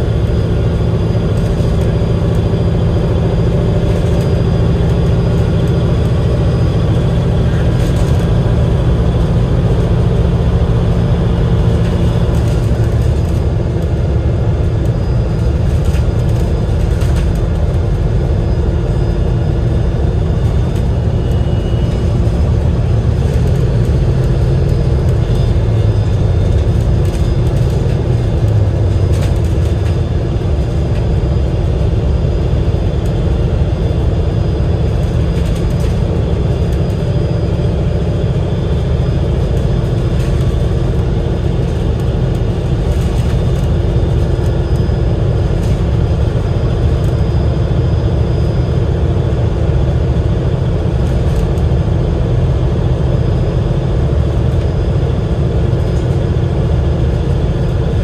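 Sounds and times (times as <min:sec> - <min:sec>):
faint whining tones: 0:00.0 - 0:51.8
bus engine rumbling: 0:00.0 - 0:58.0.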